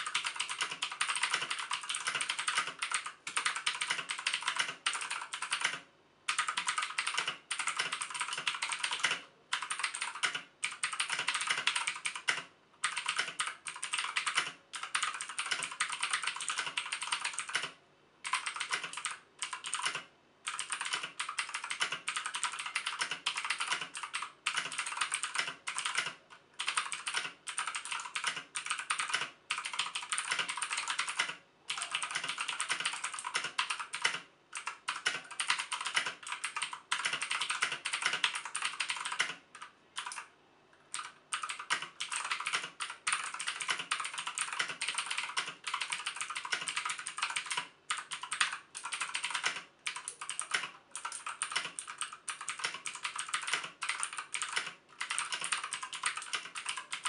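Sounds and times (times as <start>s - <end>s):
fast typing on a clicky keyboard: 0.0s - 40.3s, 40.9s - 57.0s.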